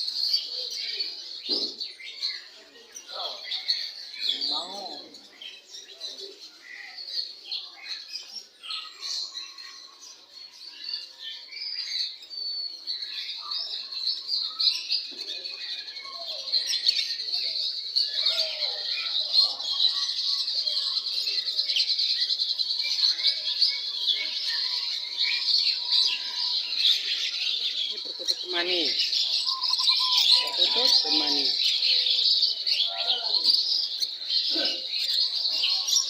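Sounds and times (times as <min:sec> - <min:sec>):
songbirds chirping in chorus: 0:00.0 - 0:36.0.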